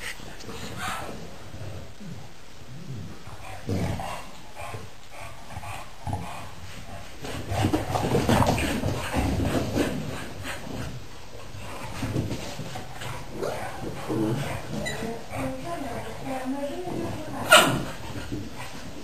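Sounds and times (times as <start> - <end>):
puppies play-fighting: 0.0 - 19.0
puppy vocal sounds: 0.0 - 19.0.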